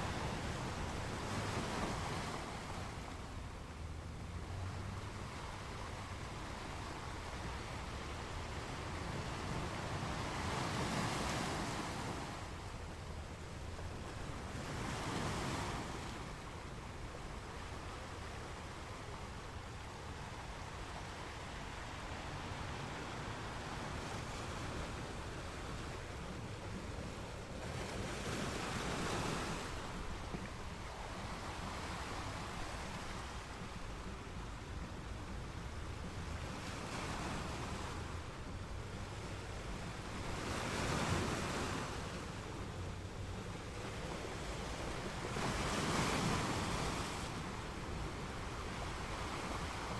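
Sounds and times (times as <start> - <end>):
sea waves breaking on shore: 0.0 - 49.9.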